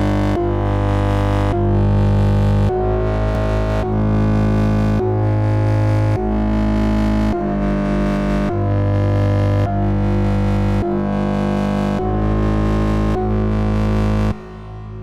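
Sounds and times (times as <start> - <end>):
instrumental beat with heavy bass: 0.0 - 15.0.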